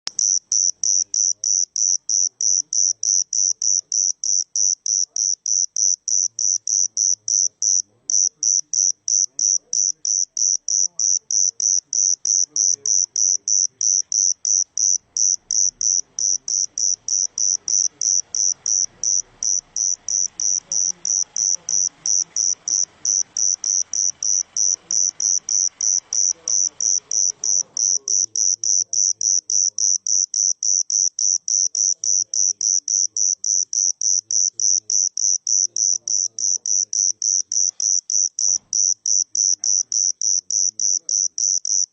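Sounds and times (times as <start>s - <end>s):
cricket chirping: 0.1s - 41.9s.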